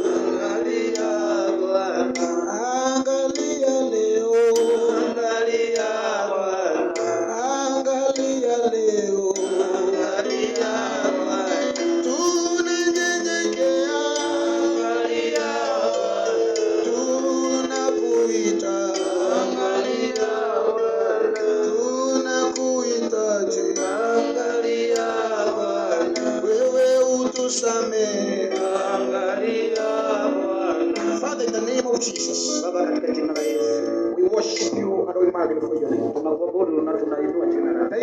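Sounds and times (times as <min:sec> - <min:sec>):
person singing: 0:00.0 - 0:35.0
sustained keyboard chords: 0:00.0 - 0:38.0.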